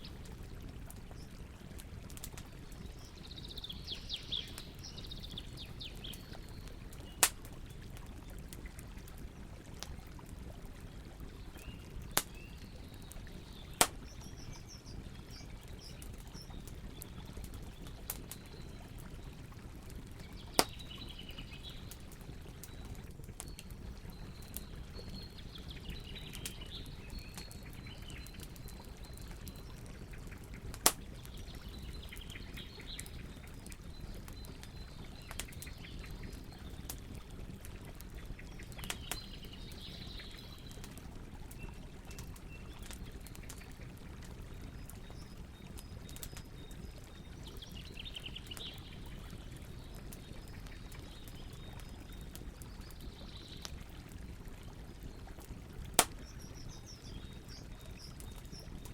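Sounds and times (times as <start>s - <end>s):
campfire crackling: 0.0s - 58.9s.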